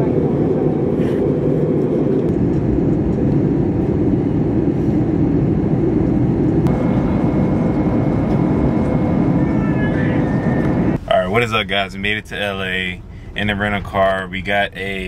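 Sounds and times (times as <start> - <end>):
high whine: 0.0 - 13.2
jet engine and airflow rumble: 0.0 - 15.0.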